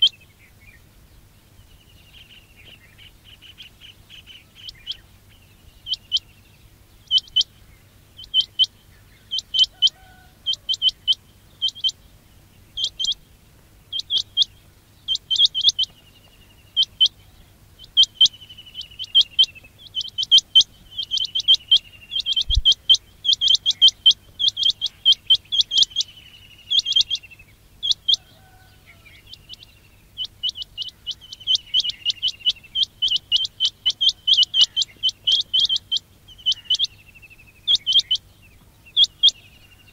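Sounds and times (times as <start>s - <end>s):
quail whistled calls: 0.0s - 0.2s, 2.1s - 6.4s, 7.0s - 7.6s, 8.2s - 12.0s, 12.7s - 13.2s, 13.9s - 39.9s.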